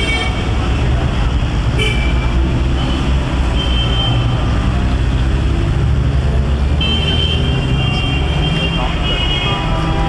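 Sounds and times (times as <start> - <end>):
low rumble of engines: 0.0 - 10.0.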